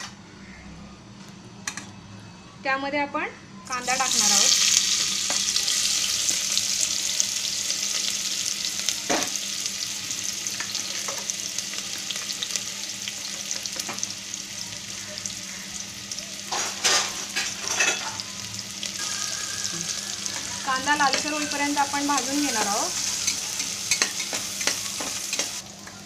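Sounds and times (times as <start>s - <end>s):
onion sizzling in hot oil: 3.7s - 26.0s.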